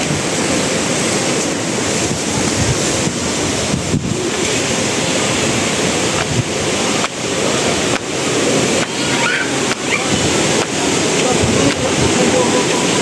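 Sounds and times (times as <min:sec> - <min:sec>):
surf: 0:00.0 - 0:13.0
wind: 0:00.0 - 0:13.0
wind buffeting microphone: 0:00.0 - 0:13.0.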